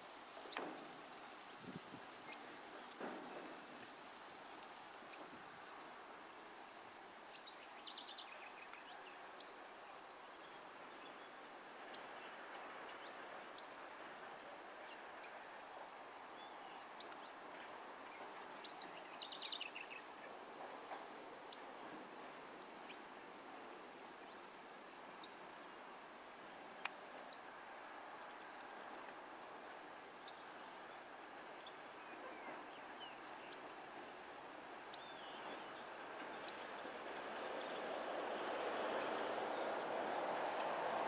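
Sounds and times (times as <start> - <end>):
faint outdoor hiss: 0.0 - 41.0.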